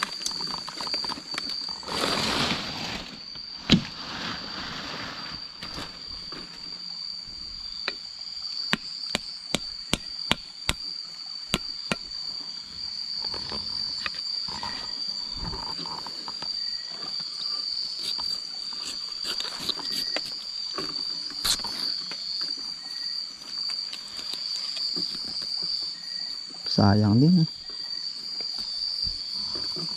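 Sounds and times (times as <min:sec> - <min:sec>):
cricket chorus trilling: 0:00.0 - 0:29.9.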